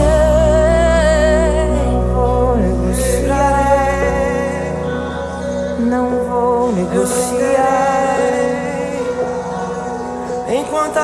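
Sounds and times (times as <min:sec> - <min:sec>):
low bass: 0:00.0 - 0:10.4
sustained chords: 0:00.0 - 0:11.0.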